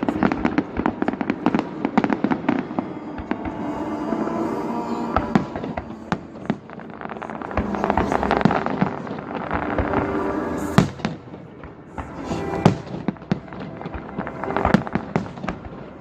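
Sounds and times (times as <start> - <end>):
fireworks bangs and crackling: 0.0 - 16.0
music playing: 0.0 - 16.0.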